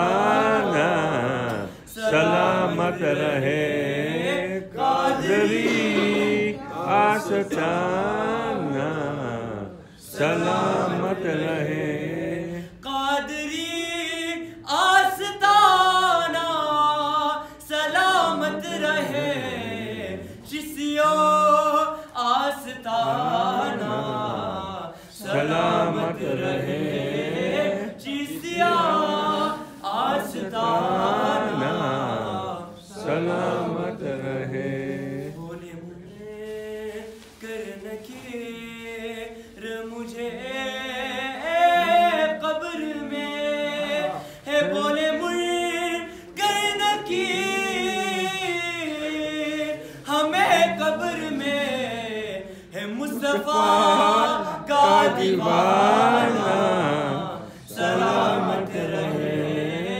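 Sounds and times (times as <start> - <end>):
man singing devotional verse: 0.0 - 59.9.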